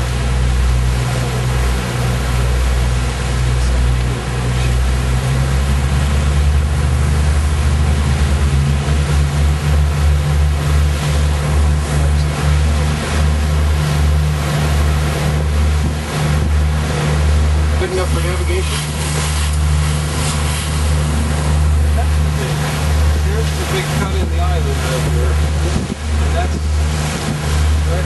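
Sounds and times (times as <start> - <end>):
yacht low rumble: 0.0 - 28.0.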